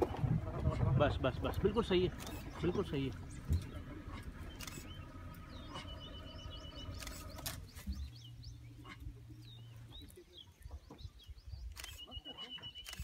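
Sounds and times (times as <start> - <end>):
vehicle engine idling: 0.0 - 12.0
birds chirping: 0.0 - 13.0.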